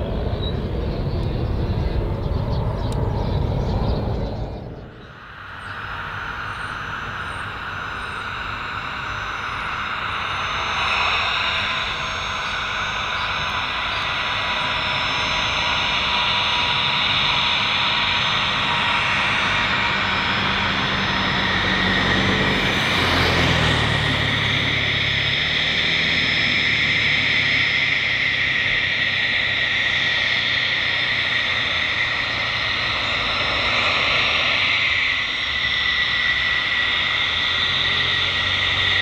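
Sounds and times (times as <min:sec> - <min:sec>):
jet engine whine taxiing: 0:00.0 - 0:39.0.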